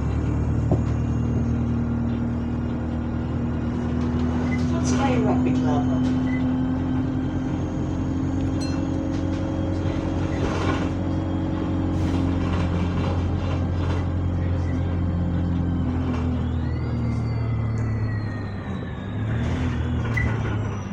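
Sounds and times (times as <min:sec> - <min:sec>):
bus engine running: 0:00.0 - 0:20.9.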